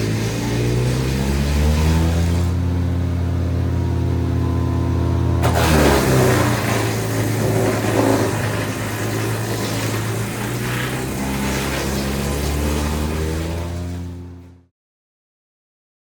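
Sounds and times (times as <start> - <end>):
wood being shredded: 0.0 - 14.6
wood chipper engine running: 0.0 - 14.7.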